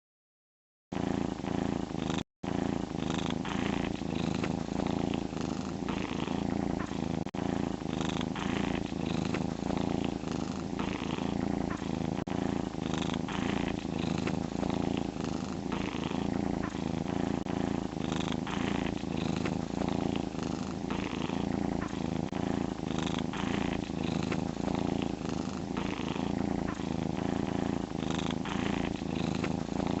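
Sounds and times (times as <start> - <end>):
cat snoring: 0.9 - 30.0.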